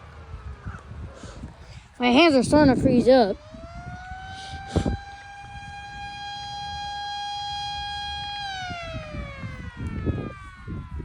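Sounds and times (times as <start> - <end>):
siren winding down: 0.0 - 11.0.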